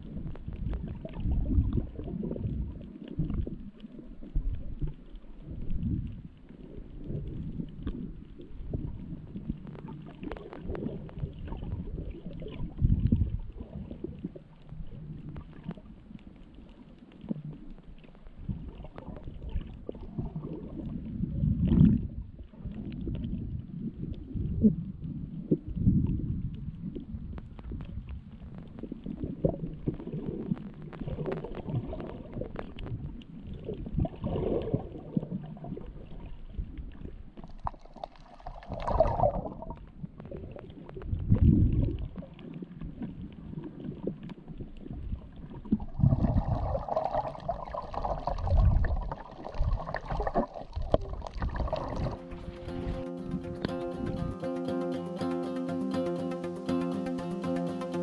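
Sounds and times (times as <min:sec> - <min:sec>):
faint underwater clicks: 0:00.0 - 0:54.4
underwater rumbling and gurgling: 0:00.0 - 0:54.4.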